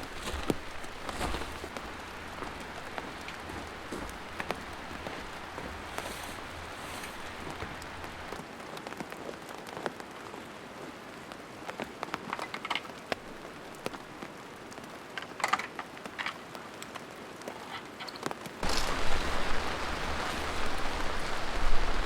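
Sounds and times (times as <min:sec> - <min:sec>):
rain falling: 0:00.0 - 0:22.0
raindrops ticking on a surface: 0:00.0 - 0:22.0.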